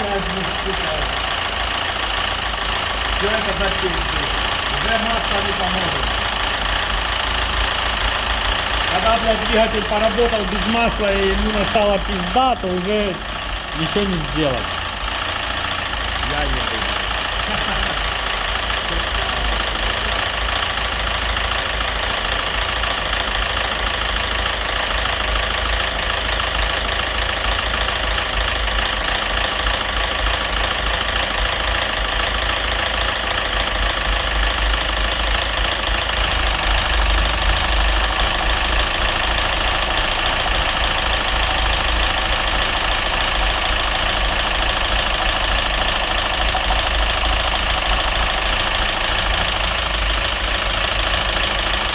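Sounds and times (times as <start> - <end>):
car engine idling with heavy knock: 0.0 - 51.9.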